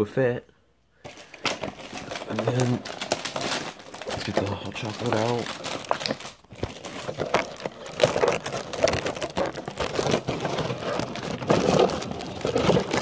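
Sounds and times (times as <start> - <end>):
plastic packaging crinkling: 1.0 - 13.0.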